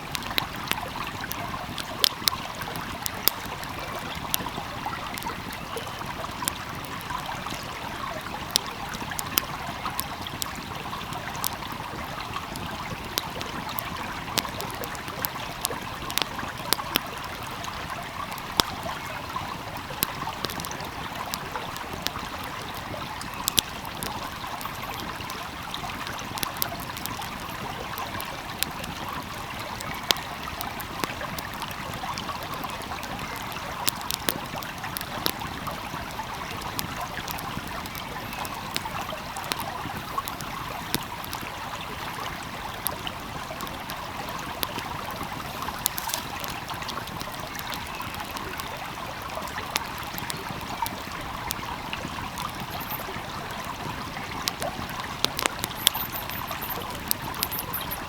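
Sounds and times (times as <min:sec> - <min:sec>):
stream flowing: 0:00.0 - 0:58.0
wood fire crackling and popping: 0:00.0 - 0:58.0.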